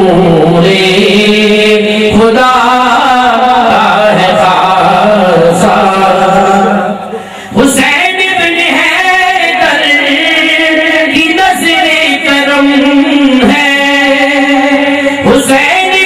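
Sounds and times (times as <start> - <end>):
voices singing devotional chant: 0.0 - 16.0.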